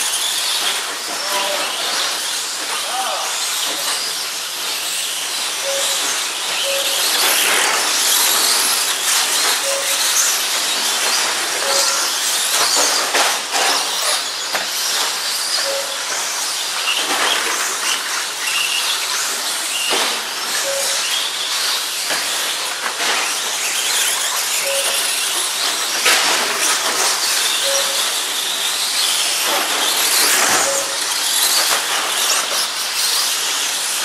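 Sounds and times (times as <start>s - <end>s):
rc trucks motors hissing: 0.0s - 34.0s
rc trucks whining past: 0.0s - 34.0s.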